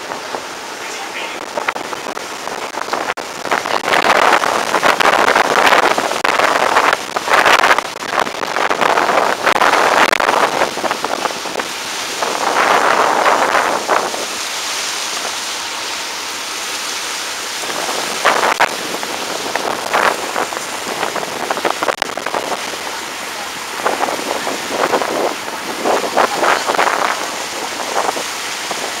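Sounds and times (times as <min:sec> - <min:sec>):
wind gusting on microphone: 0:00.0 - 0:15.4, 0:16.0 - 0:29.0
rushing wind and water: 0:00.0 - 0:29.0.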